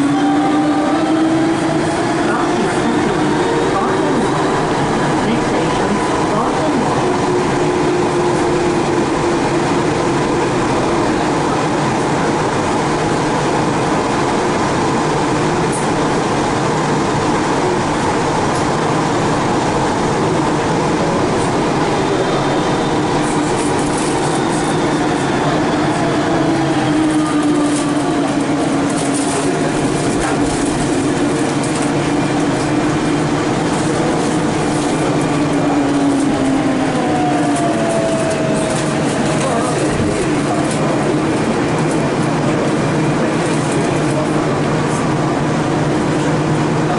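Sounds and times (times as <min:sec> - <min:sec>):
metro train rolling noise: 0:00.0 - 0:46.9.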